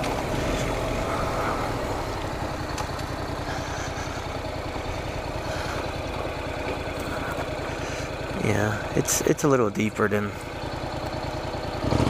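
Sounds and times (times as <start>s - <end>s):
tyres rolling on gravel: 0.0s - 11.2s
motorcycle engine at low revs: 0.0s - 12.0s.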